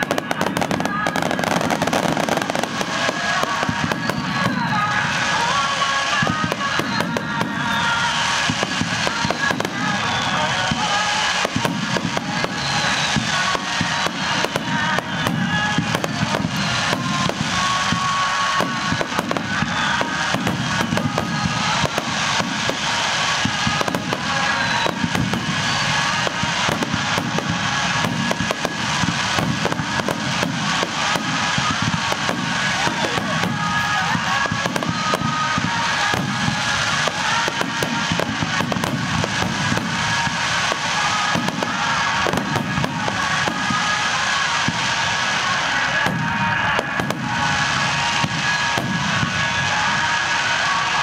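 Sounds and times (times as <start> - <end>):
fireworks bursting: 0.0 - 51.0
music playing: 0.0 - 51.0.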